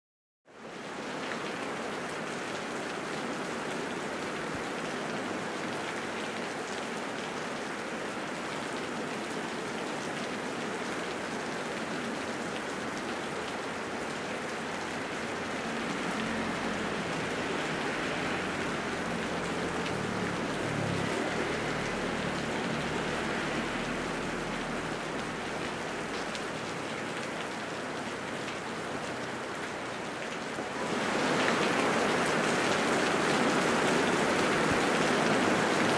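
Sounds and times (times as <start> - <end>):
heavy rain falling: 0.6 - 35.9.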